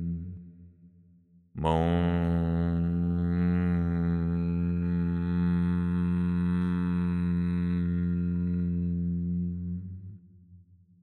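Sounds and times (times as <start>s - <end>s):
didgeridoo low drone: 0.0s - 0.6s, 1.6s - 10.2s.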